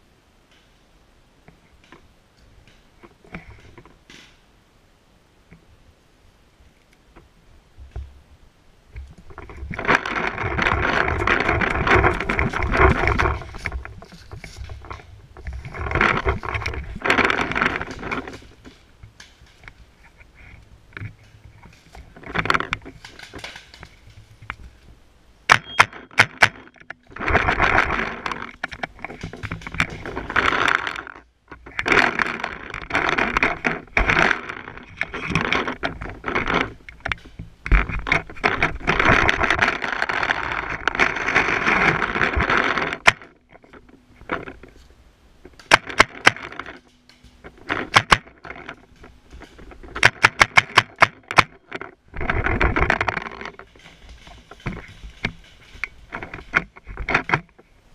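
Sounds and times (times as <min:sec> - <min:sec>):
twigs cracking: 0:09.0 - 0:57.8
leaves and twigs brushing against gear: 0:09.2 - 0:57.9.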